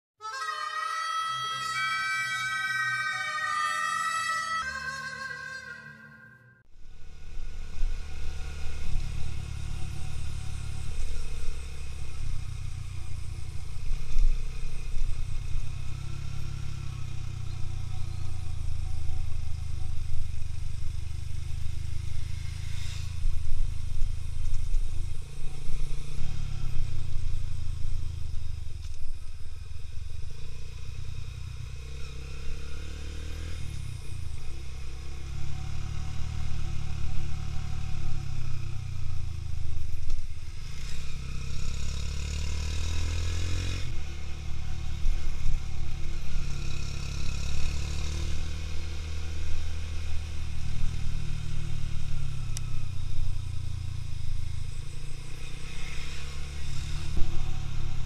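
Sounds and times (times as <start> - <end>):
motorcycle engine running: 6.6 - 58.0.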